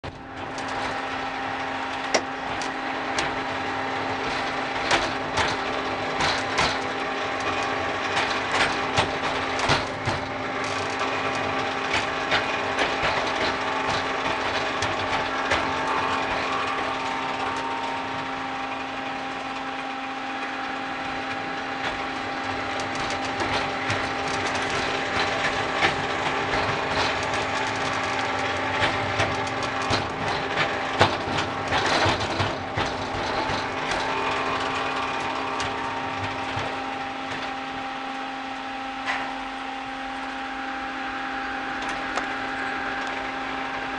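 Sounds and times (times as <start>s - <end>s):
wheels clacking over rail joints: 0.0s - 40.3s
mini train motor hum: 0.0s - 43.9s.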